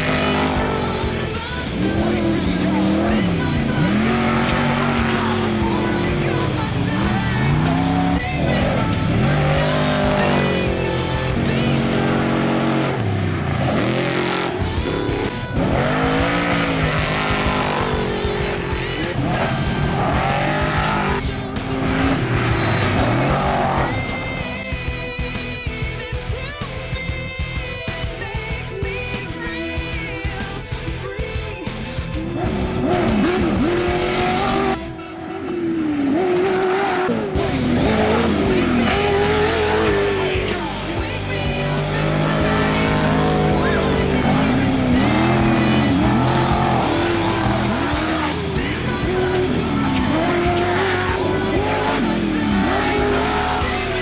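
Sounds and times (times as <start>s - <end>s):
off-road vehicle engines revving: 0.0s - 54.0s.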